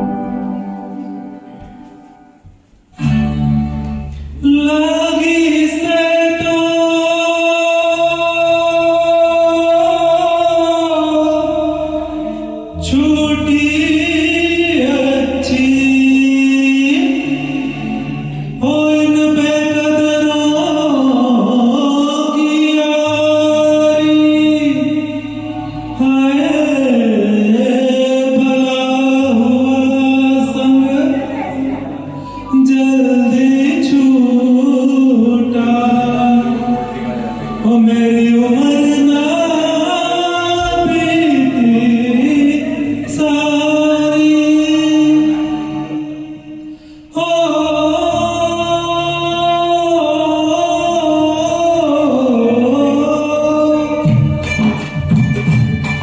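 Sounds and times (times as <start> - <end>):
karaoke backing track: 0.0 - 56.0
man singing: 4.2 - 55.2.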